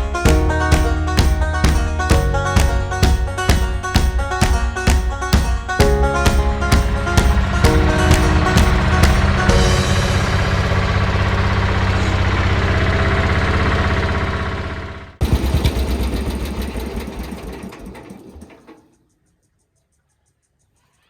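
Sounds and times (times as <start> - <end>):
garden tractor engine running: 0.0 - 18.9.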